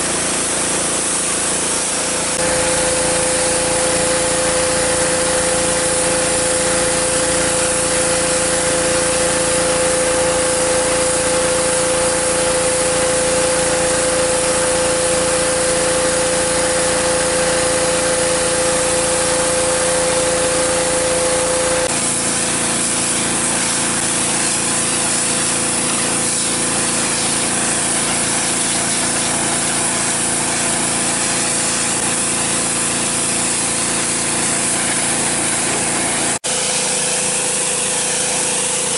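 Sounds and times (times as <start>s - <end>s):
high-pressure spray hissing: 0.0s - 38.9s
pressure washer engine running: 0.0s - 38.9s.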